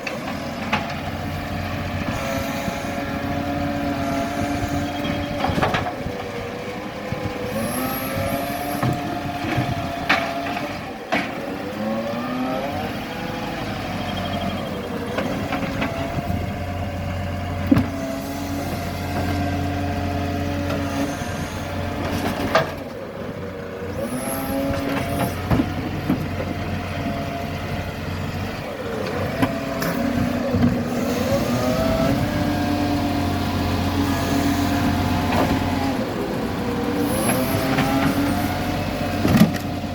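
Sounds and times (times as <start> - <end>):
garbage truck engine running: 0.0 - 39.9.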